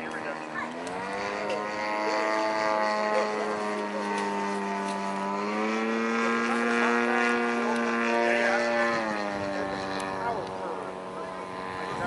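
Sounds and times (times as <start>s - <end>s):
model airplane motor and propeller: 0.0s - 12.0s.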